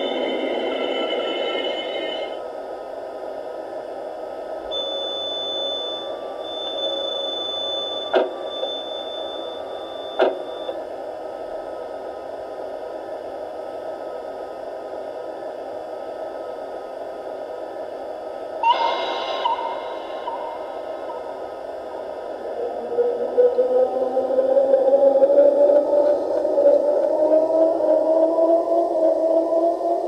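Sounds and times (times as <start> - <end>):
high steady whine: 0.0 - 30.0.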